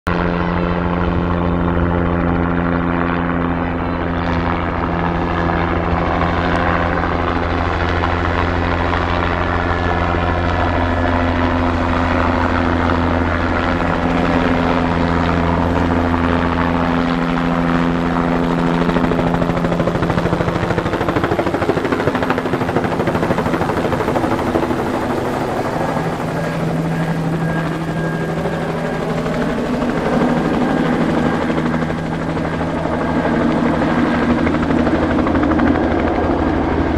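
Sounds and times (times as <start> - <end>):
helicopter flying low overhead: 0.1 - 36.9.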